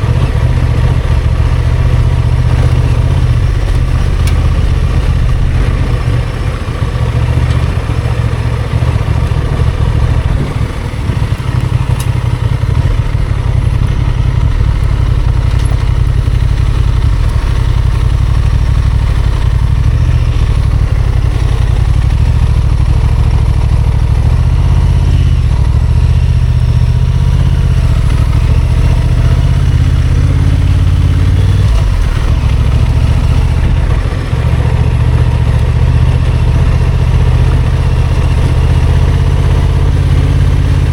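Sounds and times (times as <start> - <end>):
motorcycle engine at low revs: 0.0 - 40.9.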